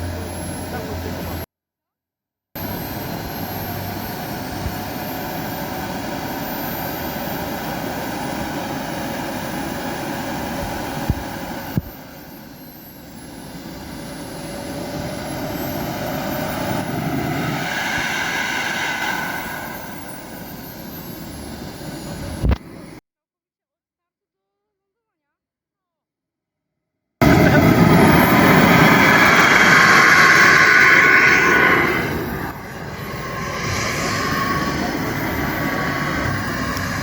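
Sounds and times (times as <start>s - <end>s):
jet aircraft engine drone: 0.0s - 1.5s, 2.6s - 23.0s, 27.2s - 37.0s.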